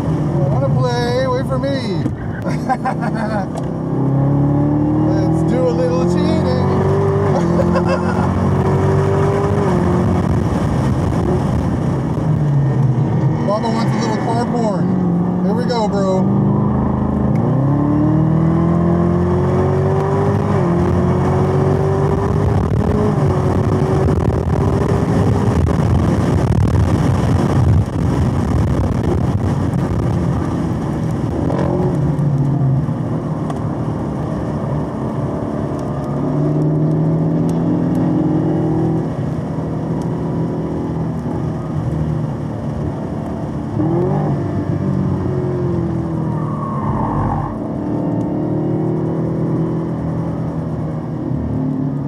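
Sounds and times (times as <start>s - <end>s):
car engine accelerating hard: 0.0s - 52.0s.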